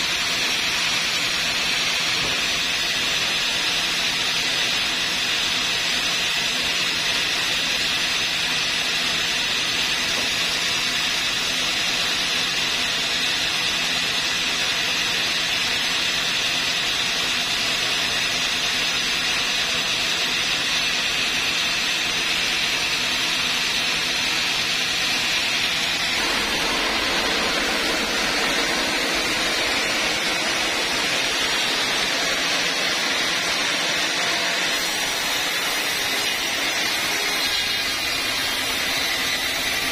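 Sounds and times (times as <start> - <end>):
band saw whirring: 0.0 - 39.9
saw blade cutting log: 0.0 - 39.9.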